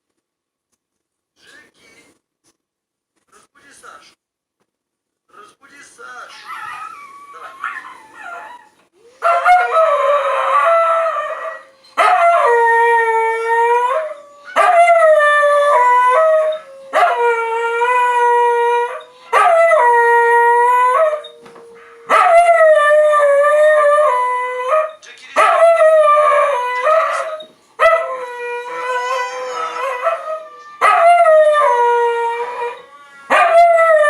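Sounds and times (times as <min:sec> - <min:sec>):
dog howling: 0:06.4 - 0:34.0.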